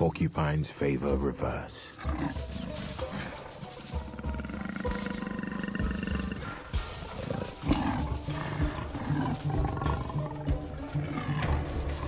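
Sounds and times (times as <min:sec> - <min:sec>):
leopards growling and snarling: 0:01.4 - 0:12.0.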